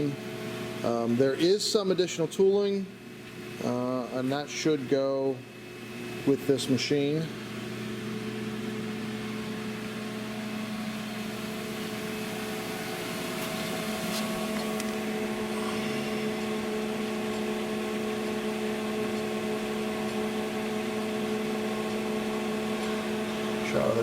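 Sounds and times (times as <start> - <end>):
grinding machine electric hum: 0.0 - 24.0.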